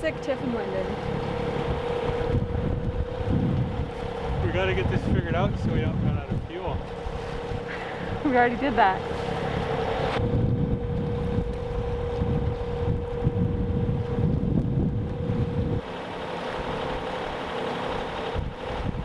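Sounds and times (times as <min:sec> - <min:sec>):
wind buffeting microphone: 0:00.0 - 0:15.9, 0:16.6 - 0:19.0
steady single-pitch hum: 0:00.0 - 0:19.0.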